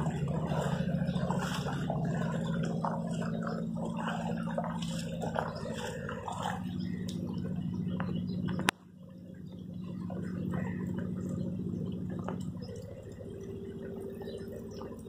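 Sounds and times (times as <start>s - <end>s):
low steady hum: 0.0s - 15.0s
water trickling and dripping: 0.0s - 15.0s.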